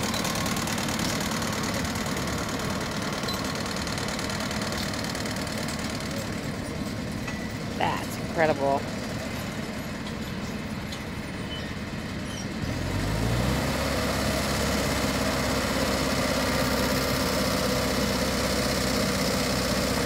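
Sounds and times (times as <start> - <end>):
harvester engine running: 0.0 - 20.0.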